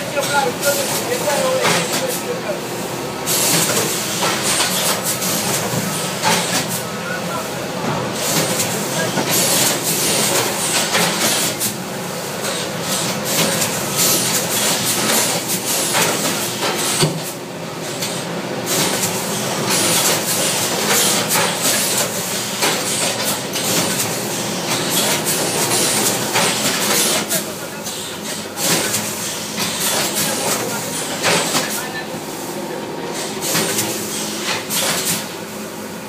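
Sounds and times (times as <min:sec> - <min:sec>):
bagging machine rushing and clattering: 0:00.0 - 0:35.5.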